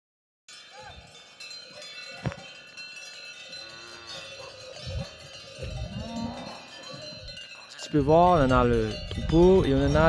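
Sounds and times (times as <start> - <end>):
cattle bells clinking: 0.5 - 10.0.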